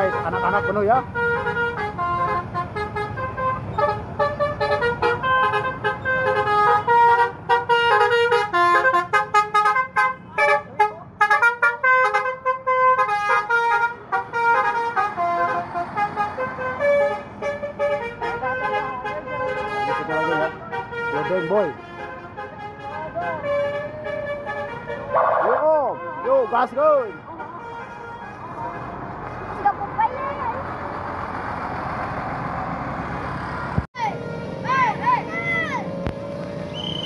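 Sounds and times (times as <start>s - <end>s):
multi-tone bus air horn tune: 0.0s - 30.5s, 34.0s - 35.7s.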